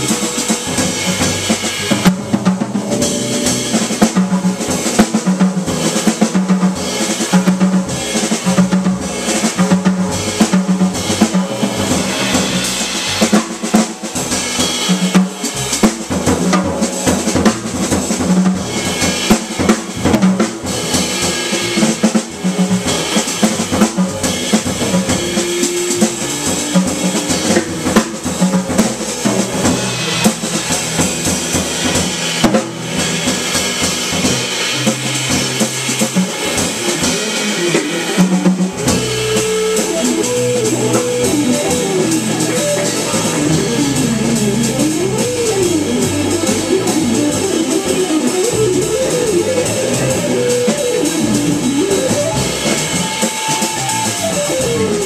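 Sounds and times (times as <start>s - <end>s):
drum kit hits: 0.0s - 55.0s
jazz trio playing: 0.0s - 55.0s.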